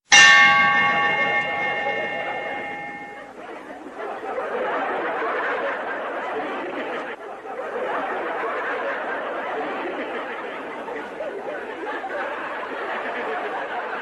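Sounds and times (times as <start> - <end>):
crowd chattering and laughing: 0.2 - 14.0.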